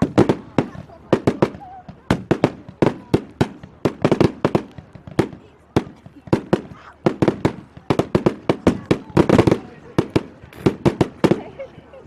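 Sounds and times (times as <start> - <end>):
fireworks bangs: 0.0 - 11.8.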